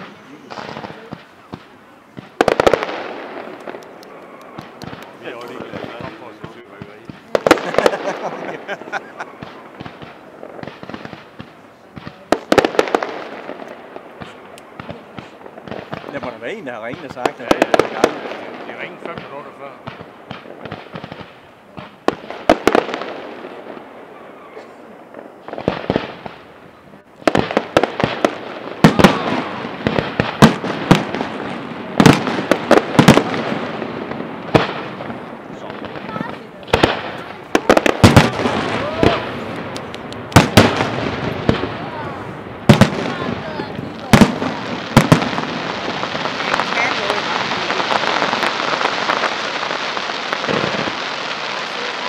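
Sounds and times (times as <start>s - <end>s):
fireworks bangs: 0.0s - 52.0s
fireworks crackling: 0.0s - 52.0s.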